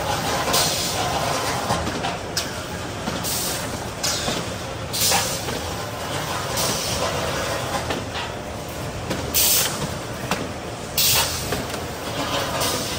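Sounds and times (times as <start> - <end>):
machine mechanical clatter: 0.0 - 12.9.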